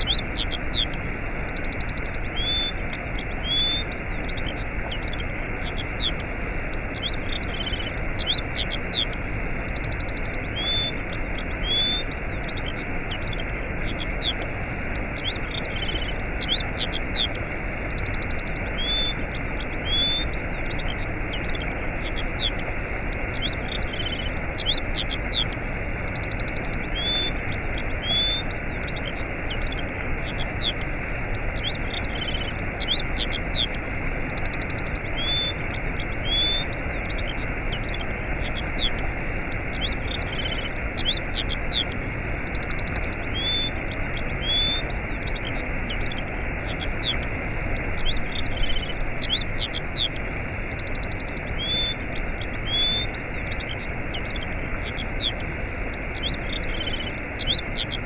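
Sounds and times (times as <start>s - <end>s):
small birds chirping and trilling: 0.0s - 58.0s
waterfall rushing: 0.1s - 58.0s.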